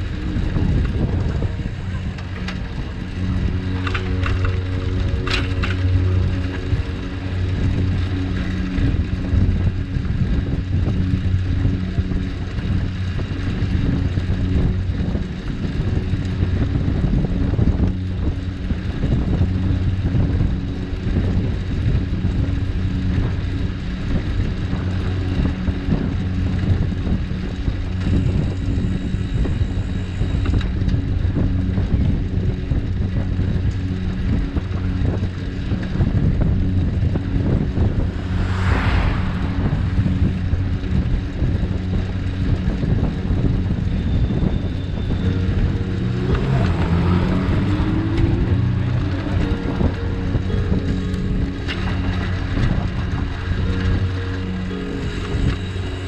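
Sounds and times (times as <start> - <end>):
low hum: 0.0 - 56.0
wind buffeting microphone: 0.0 - 56.0.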